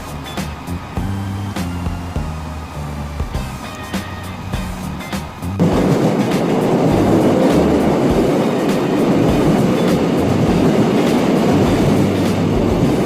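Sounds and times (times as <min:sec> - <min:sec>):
background music: 0:00.0 - 0:13.0
loud rumbling noise: 0:00.0 - 0:13.0.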